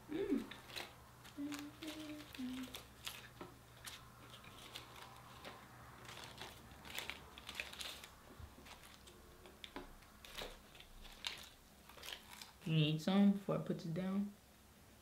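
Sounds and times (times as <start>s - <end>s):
food wrappers crinkling: 0.4s - 12.8s.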